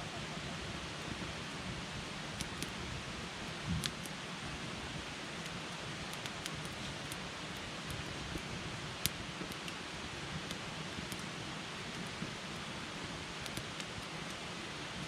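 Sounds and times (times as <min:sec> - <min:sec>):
campfire crackling and popping: 0:00.1 - 0:15.0.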